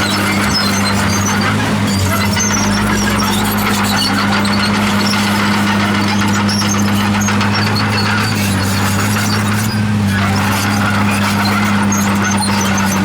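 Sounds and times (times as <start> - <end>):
bulldozer diesel engine running: 0.0 - 13.0
steel tracks squealing: 0.0 - 13.0.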